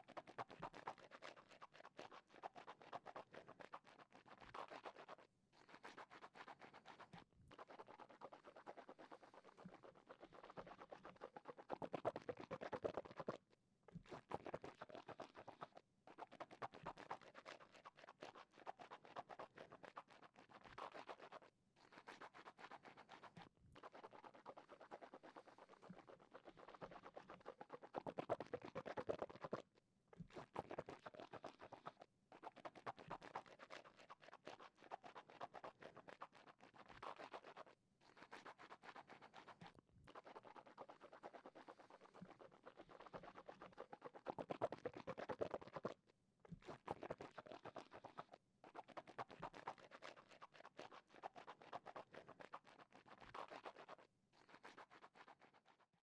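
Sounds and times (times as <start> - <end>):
wet mouth smacking and swishing: 0.1 - 55.8.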